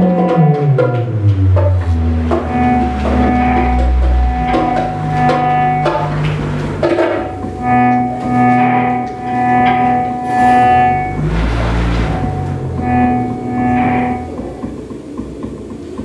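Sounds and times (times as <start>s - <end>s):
deep bass: 0.0s - 14.8s
electric guitar held notes: 0.0s - 14.9s
drum hits: 0.0s - 16.0s.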